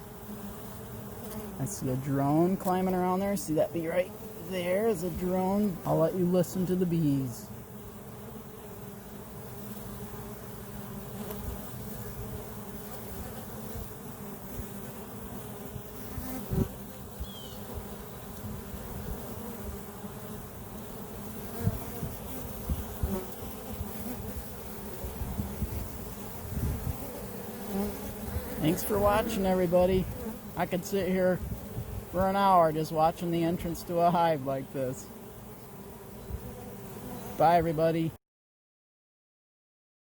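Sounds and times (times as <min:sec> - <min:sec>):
bees buzzing: 0:00.0 - 0:38.2.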